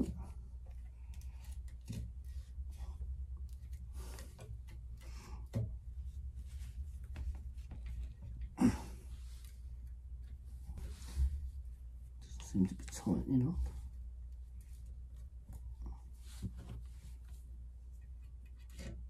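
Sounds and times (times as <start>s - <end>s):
cable tie clicks and scrapes: 0.0s - 8.6s, 12.2s - 19.0s.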